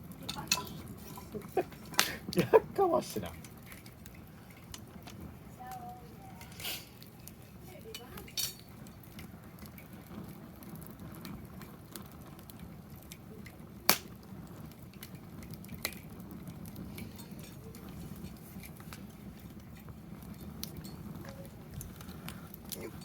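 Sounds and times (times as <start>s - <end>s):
fire popping: 0.0s - 23.0s
wood fire crackling: 0.0s - 23.0s.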